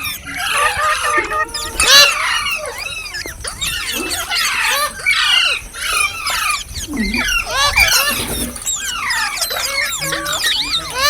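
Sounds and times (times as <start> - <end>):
parrots chirping: 0.0 - 11.0.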